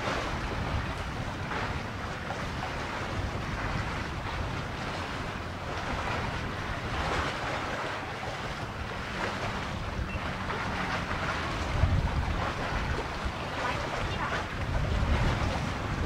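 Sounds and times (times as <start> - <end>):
seawater slapping against platform: 0.0 - 16.0
wind rumbling on microphone: 0.0 - 16.0.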